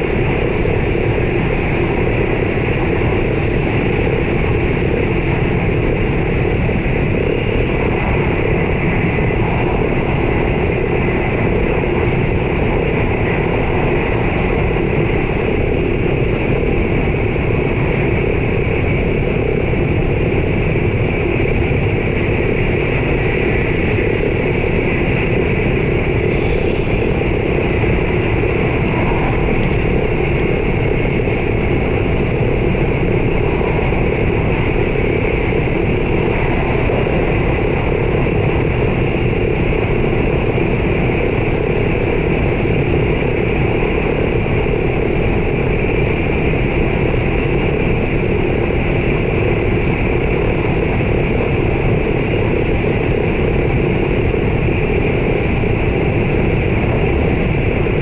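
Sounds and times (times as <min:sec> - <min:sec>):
train cabin rumble and hiss: 0:00.0 - 0:58.0.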